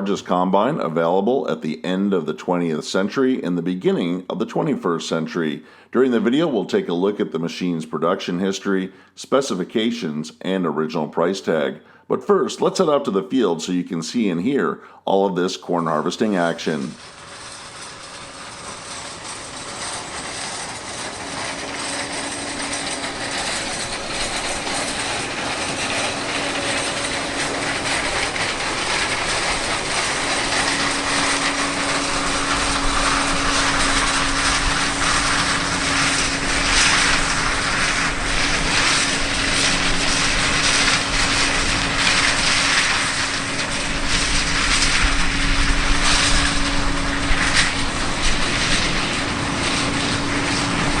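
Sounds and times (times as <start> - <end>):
combine harvester running: 0.0 - 10.1, 10.9 - 51.0.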